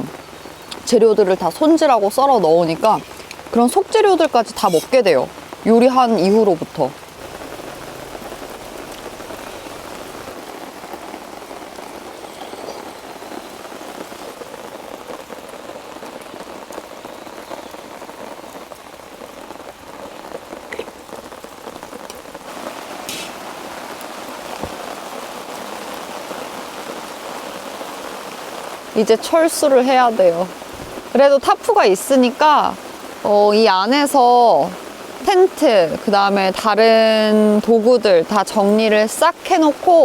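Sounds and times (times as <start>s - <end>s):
loud single raindrops: 0.0s - 38.2s
rain on a tarp: 0.0s - 40.0s.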